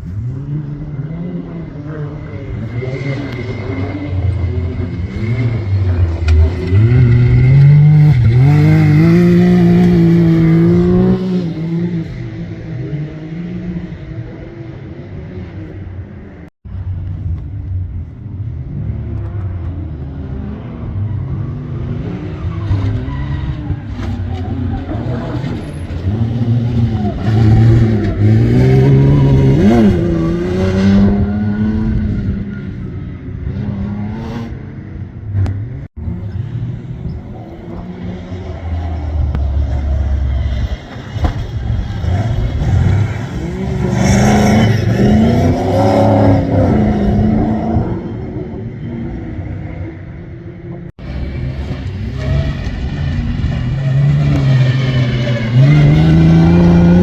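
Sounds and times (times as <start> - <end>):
off-road racing engine revving: 0.0 - 57.0.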